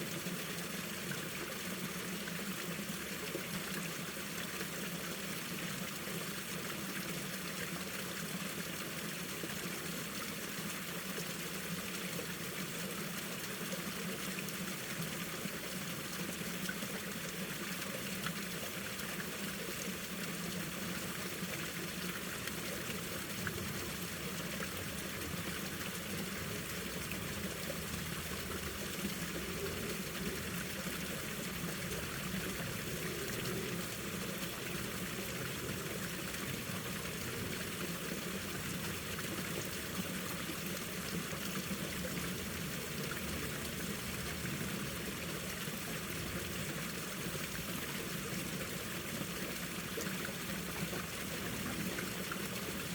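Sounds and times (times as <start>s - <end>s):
stream running over rocks: 0.0s - 52.9s.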